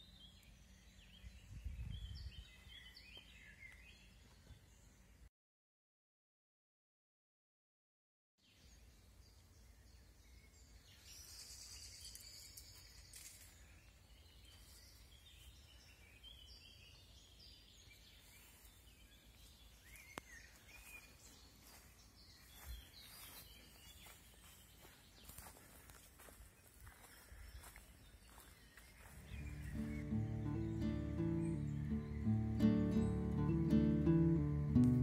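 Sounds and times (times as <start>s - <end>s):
birds chirping: 0.0s - 5.3s, 8.4s - 35.0s.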